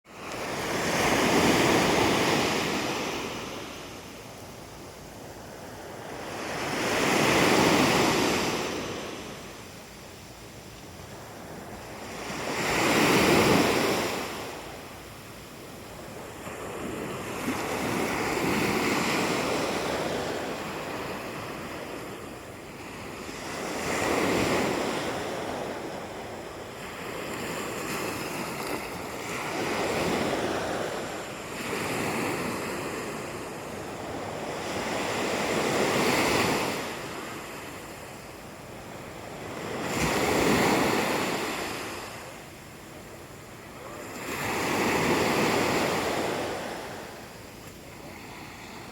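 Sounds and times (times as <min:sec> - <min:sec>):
sea waves washing in: 0:00.1 - 0:48.9.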